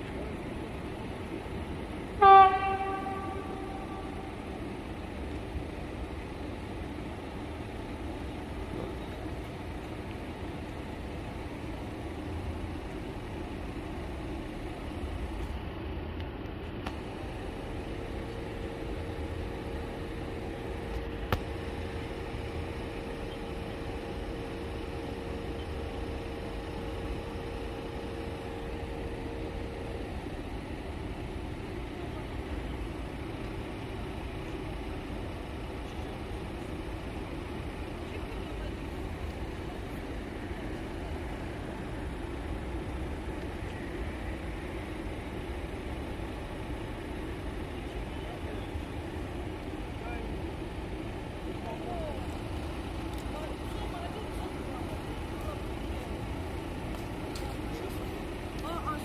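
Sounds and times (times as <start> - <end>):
engine idling: 0.0 - 59.0
faint steady hum: 0.0 - 59.0.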